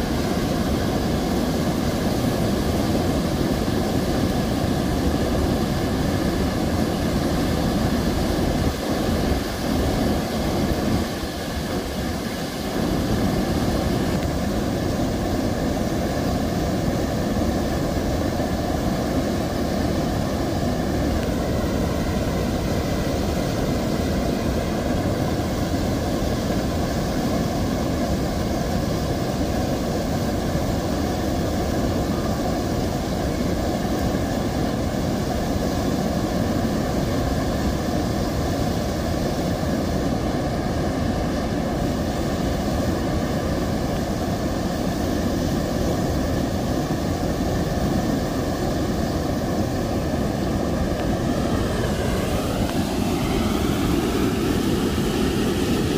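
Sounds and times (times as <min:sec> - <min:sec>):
flowing river water: 0:00.0 - 0:55.9.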